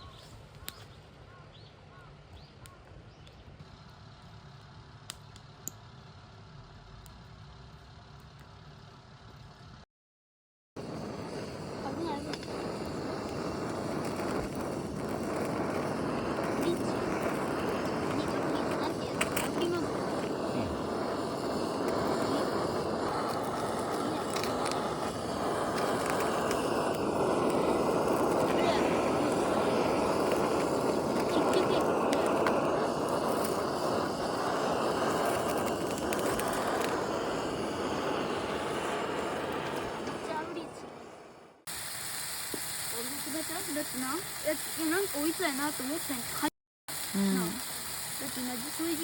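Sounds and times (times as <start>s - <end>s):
vehicle engine rumbling: 0.0s - 9.9s, 10.8s - 41.6s.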